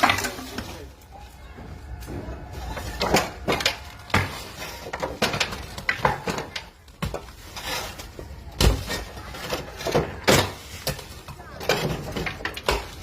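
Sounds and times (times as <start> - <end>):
knocks and clatter of building work: 0.0 - 13.0.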